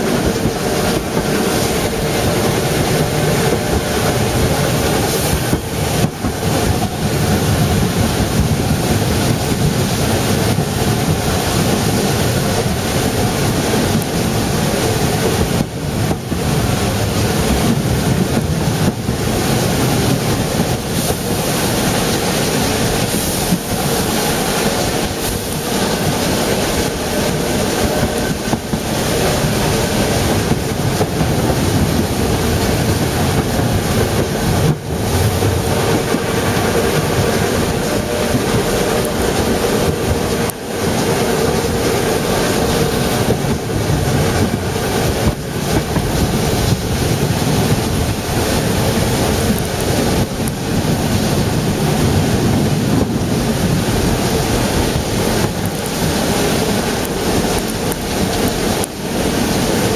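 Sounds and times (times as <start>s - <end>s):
train wheels rumbling: 0.0s - 59.9s
wind rushing over microphone: 0.0s - 59.9s.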